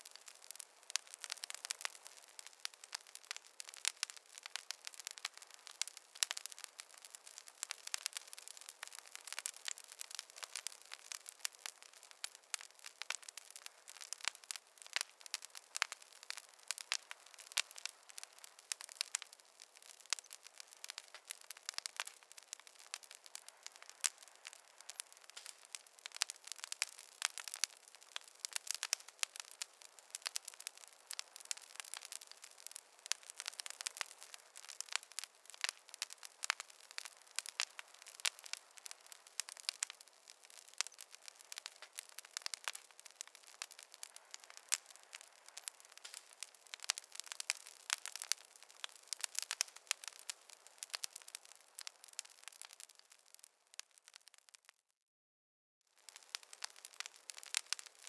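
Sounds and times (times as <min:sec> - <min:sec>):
campfire crackling: 0:00.0 - 0:54.8, 0:55.9 - 0:58.0.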